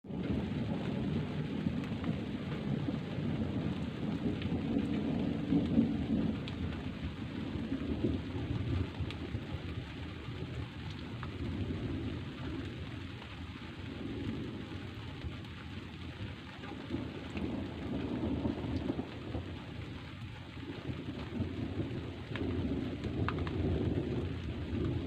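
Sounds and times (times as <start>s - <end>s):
rain falling: 0.0s - 25.0s
raindrop ticks: 0.0s - 25.0s
rolling thunder: 0.1s - 25.0s.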